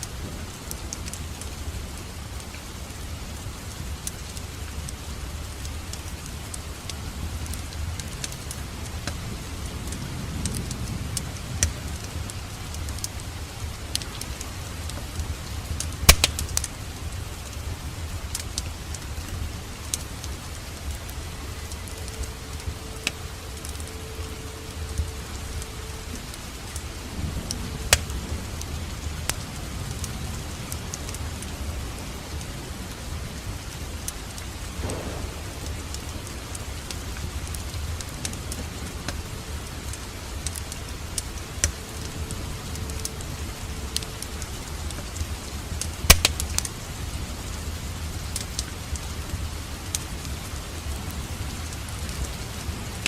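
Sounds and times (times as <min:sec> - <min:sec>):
low rumble of burning logs: 0:00.0 - 0:53.0
wood fire crackling and popping: 0:00.0 - 0:53.0.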